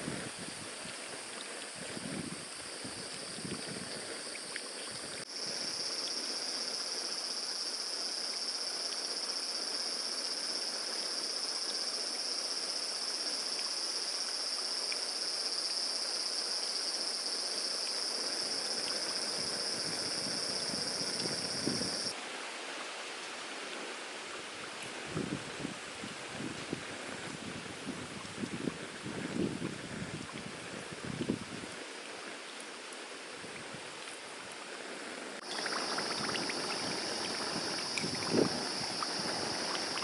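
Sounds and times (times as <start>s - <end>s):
insects droning: 0.0s - 22.3s, 25.0s - 40.0s
background hiss: 0.0s - 40.0s.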